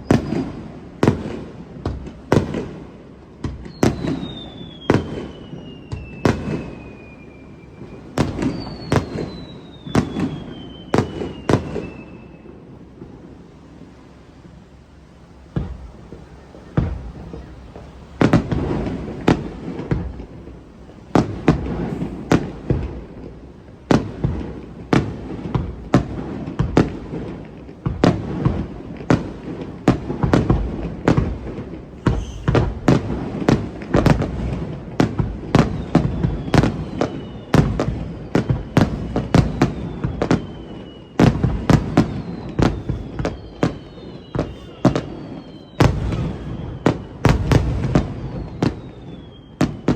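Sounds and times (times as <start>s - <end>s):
firework whistles: 0.0s - 1.7s, 2.3s - 49.9s
fireworks bursting with bangs: 0.0s - 49.9s.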